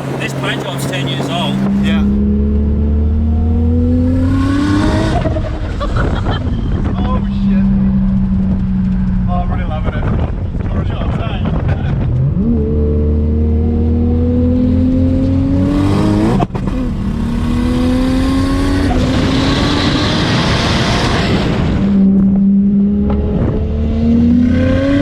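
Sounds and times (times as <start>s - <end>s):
gear change: 0.0s - 2.8s, 4.2s - 13.4s, 14.5s - 25.0s
turbocharged car engine accelerating: 0.0s - 25.0s.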